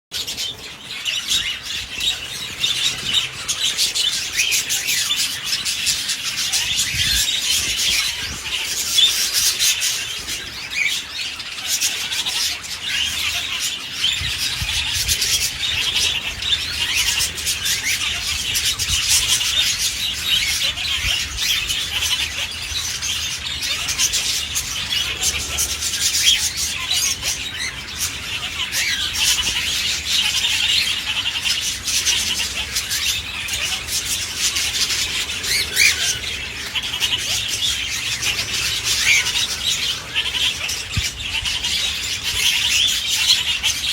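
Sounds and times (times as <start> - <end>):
budgerigars chattering: 0.1 - 43.9.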